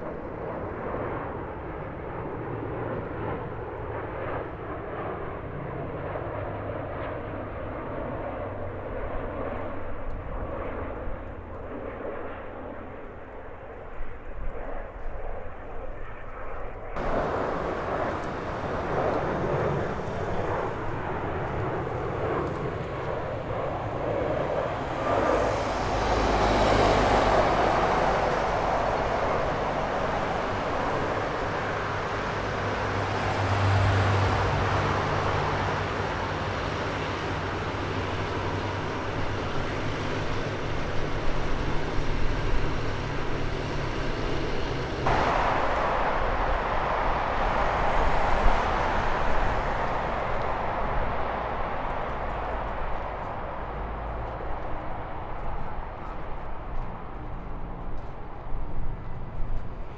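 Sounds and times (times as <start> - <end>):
jet engines of landing plane: 0.0 - 59.9.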